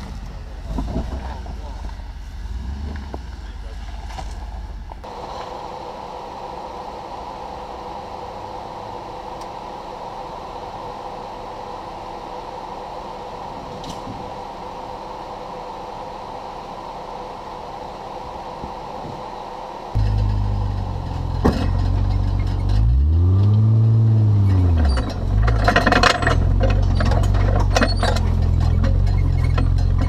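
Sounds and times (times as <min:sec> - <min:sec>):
fan-like mechanical whir: 0:05.0 - 0:29.8.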